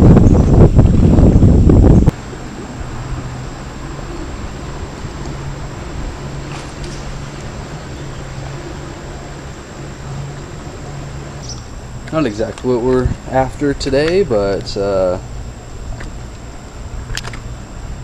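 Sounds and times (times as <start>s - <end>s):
boat motor humming: 0.0s - 18.0s
wind and water noise: 0.0s - 18.0s.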